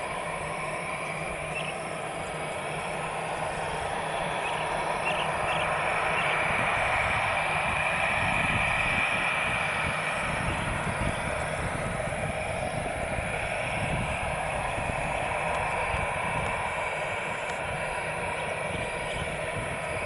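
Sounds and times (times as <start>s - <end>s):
high engine whine: 0.0s - 20.0s
jet engines running: 0.0s - 20.0s.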